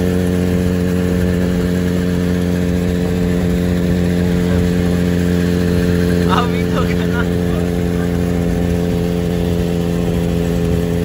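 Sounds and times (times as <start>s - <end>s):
motorcycle engine cruising: 0.0s - 11.0s
road noise: 0.0s - 11.0s.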